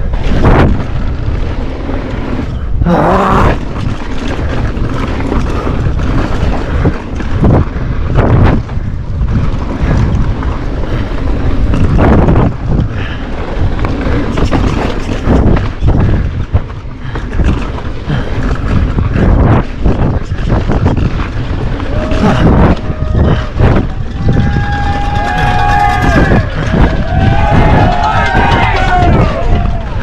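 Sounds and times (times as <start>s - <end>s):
tyres rolling over rocky dirt: 0.0s - 30.0s
wind buffeting microphone: 0.0s - 30.0s.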